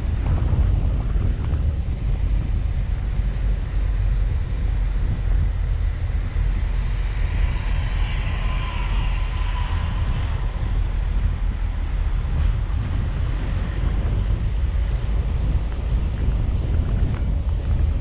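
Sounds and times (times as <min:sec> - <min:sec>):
car road and wind rumble: 0:00.0 - 0:18.0
faint whine: 0:00.0 - 0:18.0.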